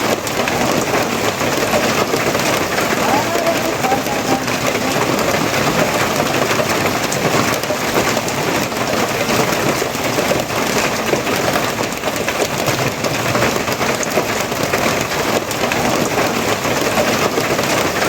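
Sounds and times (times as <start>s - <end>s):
rain pattering on a surface: 0.0s - 18.0s.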